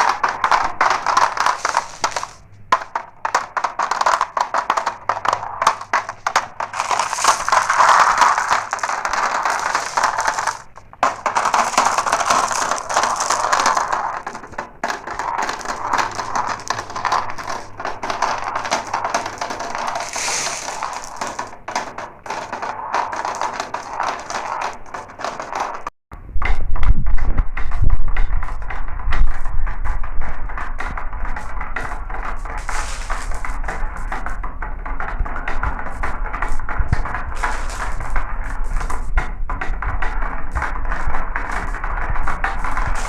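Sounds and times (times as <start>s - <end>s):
marbles rattling down a marble run: 0.0s - 26.5s, 27.6s - 43.0s.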